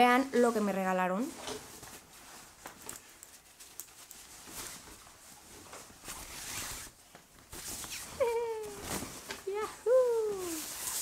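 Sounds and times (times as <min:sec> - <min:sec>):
faint rustling of wrapping: 0:00.0 - 0:11.0.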